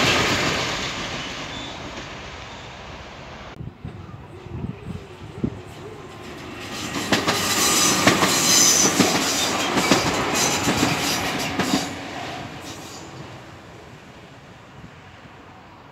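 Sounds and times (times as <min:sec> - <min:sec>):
passenger train rushing hiss: 0:00.0 - 0:15.9.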